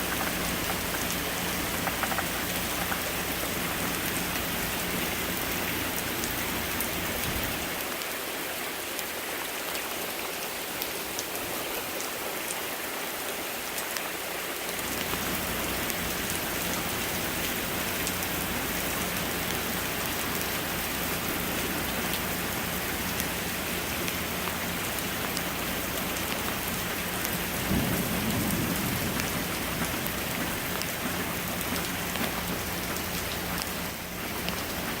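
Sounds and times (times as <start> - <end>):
raindrops ticking: 0.0 - 8.1, 14.7 - 35.0
pouring rain: 0.0 - 35.0.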